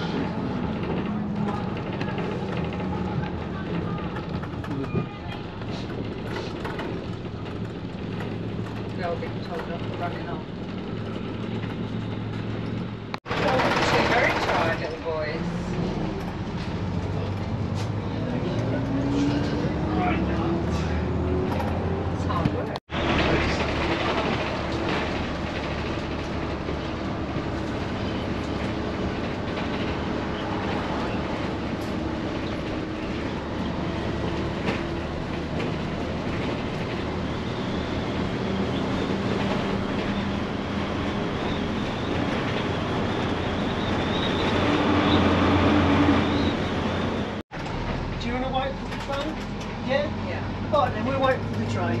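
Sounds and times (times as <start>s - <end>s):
rattling road noise: 0.0s - 52.0s
vehicle engine humming: 0.0s - 52.0s.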